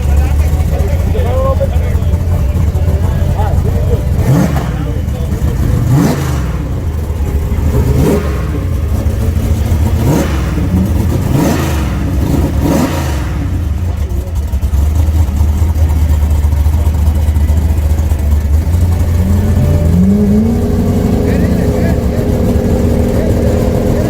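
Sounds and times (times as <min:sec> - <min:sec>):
race car engines revving hard: 0:00.0 - 0:24.0
steady low engine drone: 0:00.0 - 0:24.0.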